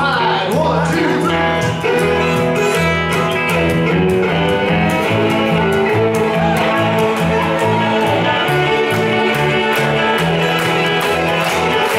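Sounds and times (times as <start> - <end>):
electric guitar: 0.0 - 11.9
plucked upright bass: 0.0 - 11.9
fiddles: 1.0 - 11.9.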